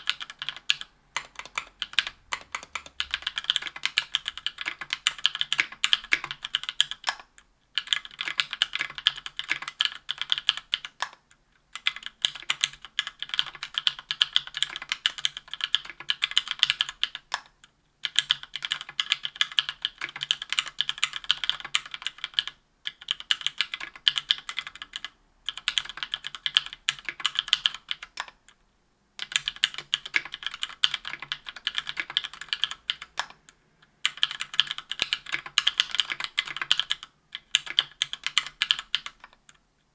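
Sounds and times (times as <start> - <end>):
mechanical keyboard typing: 0.0 - 28.6, 29.2 - 33.4, 34.0 - 39.6.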